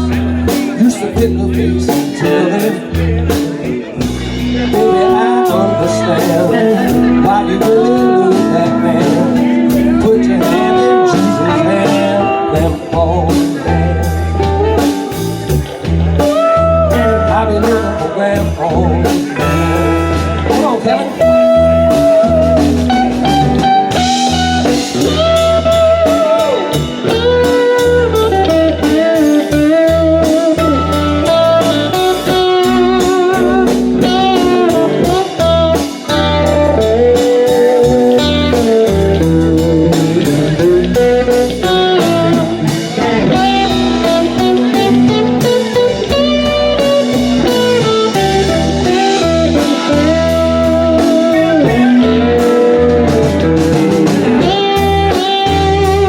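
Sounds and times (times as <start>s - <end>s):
bass guitar: 0.0s - 56.0s
drums: 0.0s - 56.0s
lead guitar solo: 0.0s - 56.0s.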